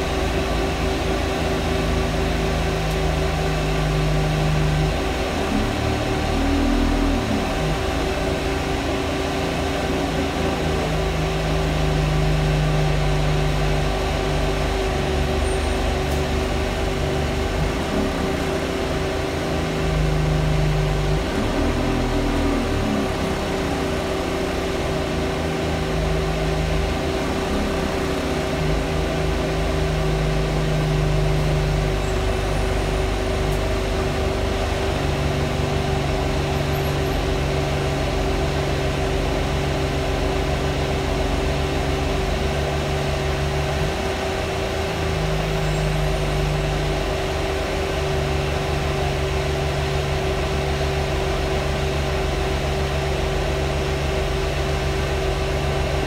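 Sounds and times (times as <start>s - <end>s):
diesel engine running: 0.0s - 56.0s
fan drone: 0.0s - 56.0s.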